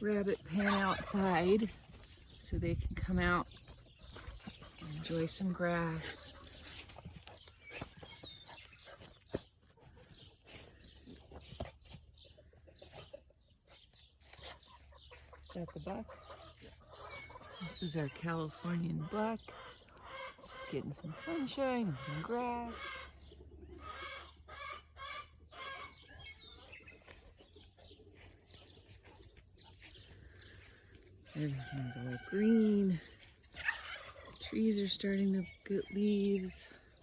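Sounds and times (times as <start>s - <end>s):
chickens clucking: 0.0s - 37.0s
small birds chirping: 0.0s - 37.0s.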